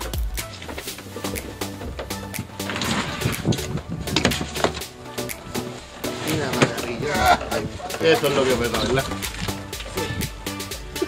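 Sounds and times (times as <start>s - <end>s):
background music: 0.0s - 11.0s
cardboard scraping and rustling: 0.6s - 10.2s.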